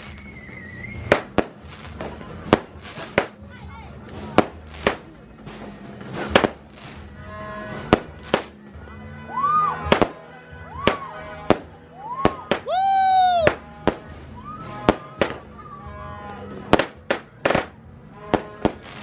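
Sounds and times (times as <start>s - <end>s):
fireworks bangs: 0.0s - 8.7s, 9.8s - 19.0s.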